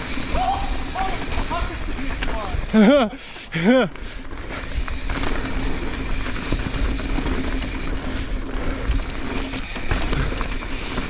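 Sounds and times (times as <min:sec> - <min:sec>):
bike buzzing and rattling: 0:00.0 - 0:11.0
tyres rumbling over dirt: 0:00.0 - 0:11.0.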